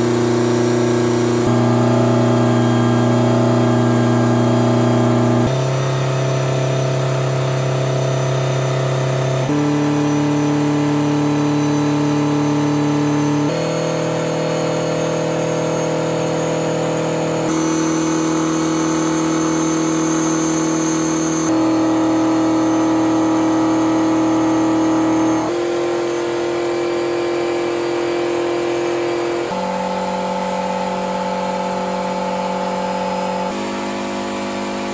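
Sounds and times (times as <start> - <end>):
car engine revving under load: 0.0 - 34.9.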